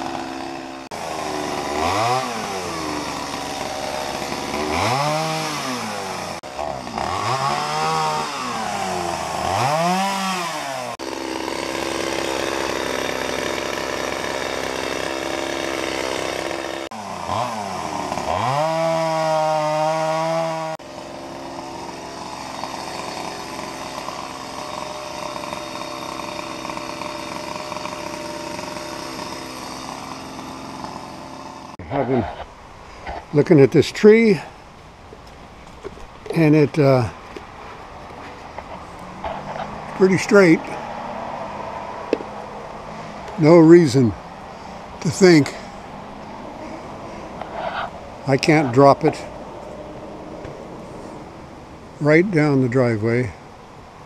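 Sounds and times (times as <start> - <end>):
chainsaw revving: 0.0 - 34.5, 38.1 - 49.4.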